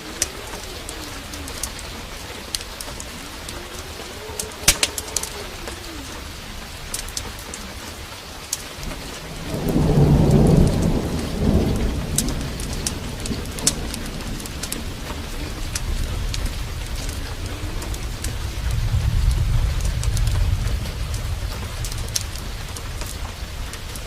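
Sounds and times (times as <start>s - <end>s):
heavy rain falling: 0.0s - 24.0s
thunder rumbling: 0.0s - 24.0s
wood fire crackling: 0.0s - 24.0s.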